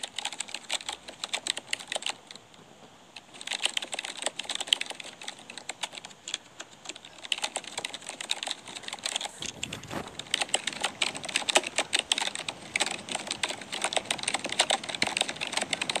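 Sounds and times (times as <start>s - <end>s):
typing on computer keyboard: 0.0s - 2.4s, 3.2s - 16.0s.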